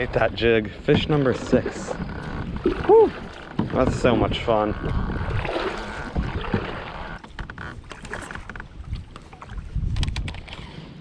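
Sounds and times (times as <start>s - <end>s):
water sloshing against kayak hull: 0.0s - 11.0s.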